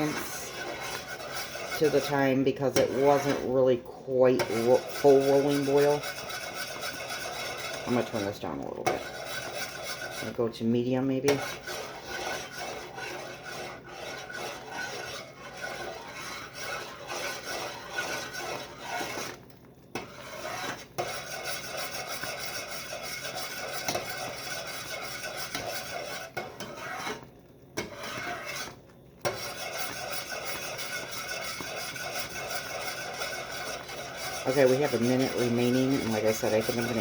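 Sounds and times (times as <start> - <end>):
spoon scraping bottom of pan: 0.0 - 10.6, 11.2 - 37.0
mixture boiling: 0.0 - 37.0.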